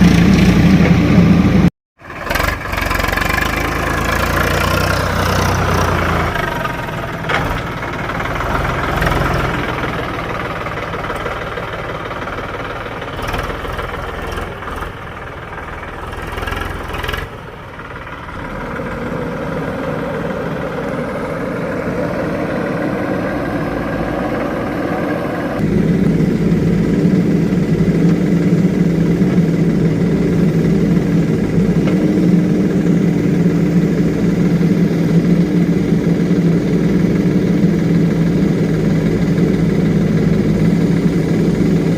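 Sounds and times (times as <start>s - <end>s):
diesel engines running: 0.0s - 41.9s.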